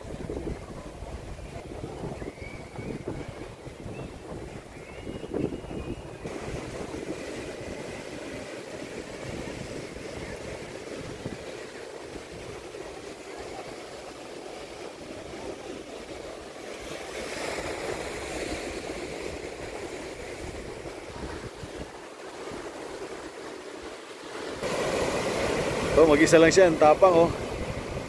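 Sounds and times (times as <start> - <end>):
ocean waves breaking on rocks: 0.0 - 28.0.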